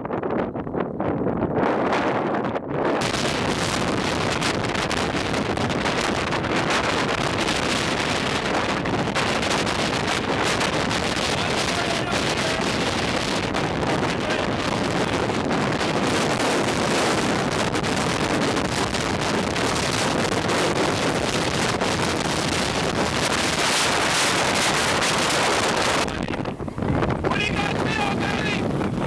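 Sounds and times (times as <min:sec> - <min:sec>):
strong wind buffeting microphone: 0:00.0 - 0:29.0.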